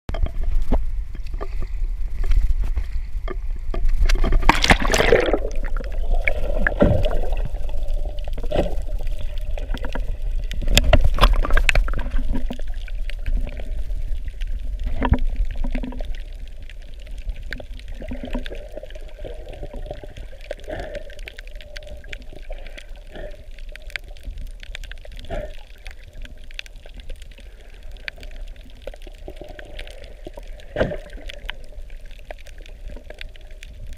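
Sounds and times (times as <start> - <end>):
rush of water: 0.1 - 33.9
underwater sloshing and gurgling: 0.1 - 33.9.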